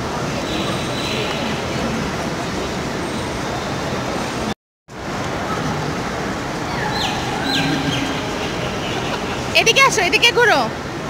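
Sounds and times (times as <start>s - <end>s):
shopping mall background noise: 0.0s - 11.0s.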